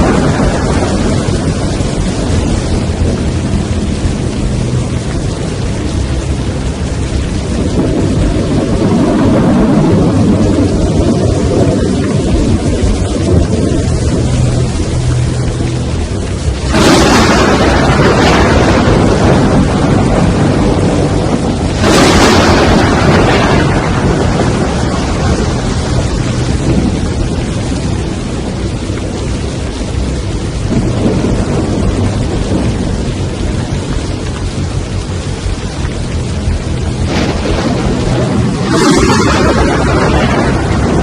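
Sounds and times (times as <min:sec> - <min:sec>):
deep rumble: 0:00.0 - 0:41.0
heavy rain: 0:00.0 - 0:41.0
wind: 0:00.0 - 0:41.0.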